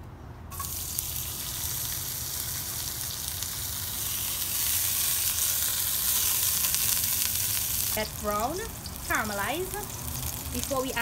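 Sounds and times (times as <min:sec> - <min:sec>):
vegetables sizzling in hot oil: 0:00.5 - 0:11.0.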